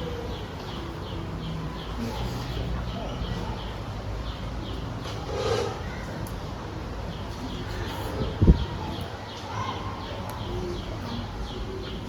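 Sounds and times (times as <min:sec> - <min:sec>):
murmur of children's voices: 0:00.0 - 0:12.0.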